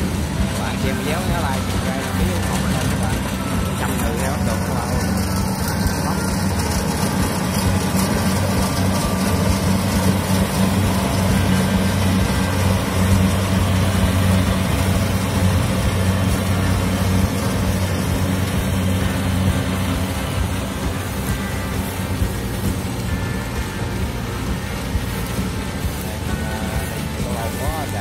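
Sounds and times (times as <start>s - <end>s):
combine harvester running: 0.0s - 28.0s.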